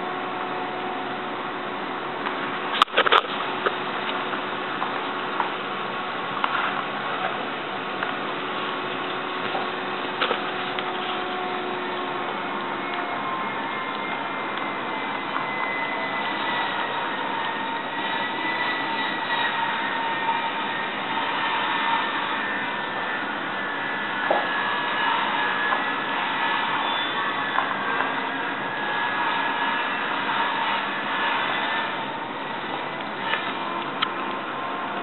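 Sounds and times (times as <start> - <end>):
steady whirring noise: 0.0 - 35.0.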